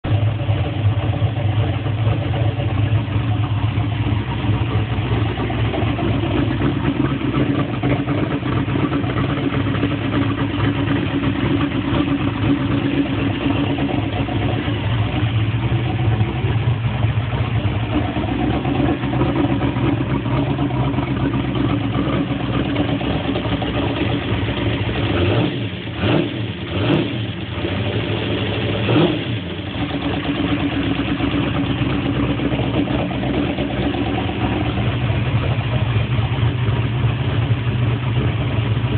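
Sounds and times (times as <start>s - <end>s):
race car engine idling: 0.0s - 38.9s.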